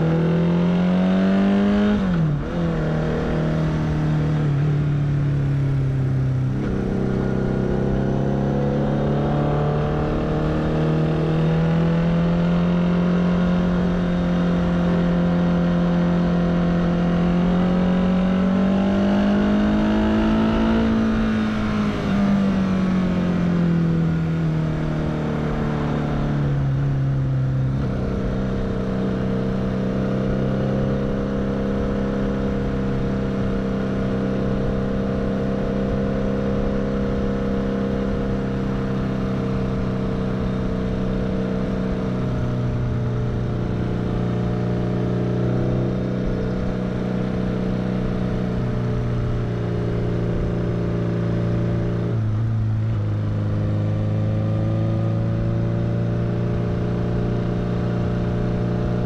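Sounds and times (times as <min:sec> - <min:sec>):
motorcycle engine running: 0:01.4 - 0:59.0.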